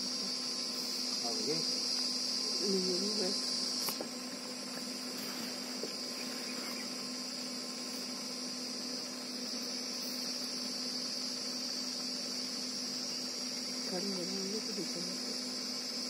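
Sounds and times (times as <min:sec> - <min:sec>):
high-pitched insect drone: 0:00.0 - 0:16.0
low steady hum: 0:00.0 - 0:16.0.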